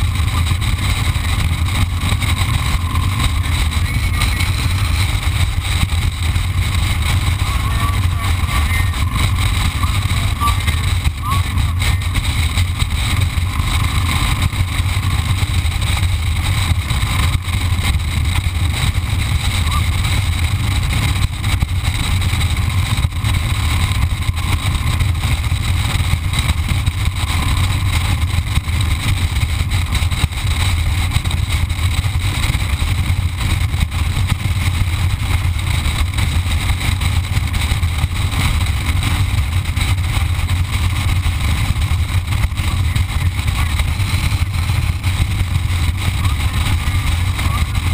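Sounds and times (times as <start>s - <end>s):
motorcycle engine rumble: 0.0s - 47.9s
road noise: 0.0s - 47.9s
wind noise: 0.0s - 47.9s.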